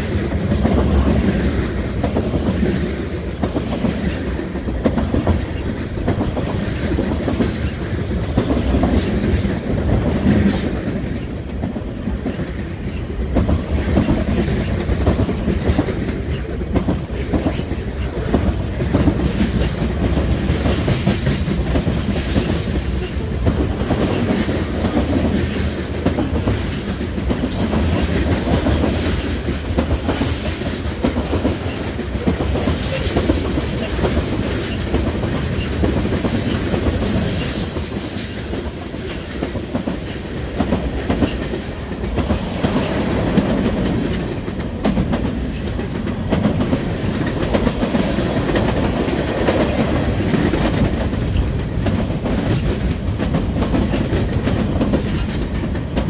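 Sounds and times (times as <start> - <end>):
train rumbling past: 0.0 - 56.0
wheels clickety-clack on track: 0.0 - 56.0.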